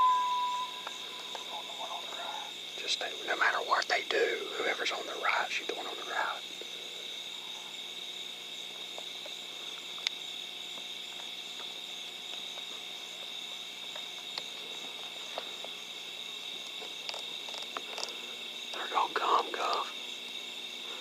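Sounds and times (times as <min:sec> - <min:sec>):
night insects chorus: 0:00.0 - 0:21.0.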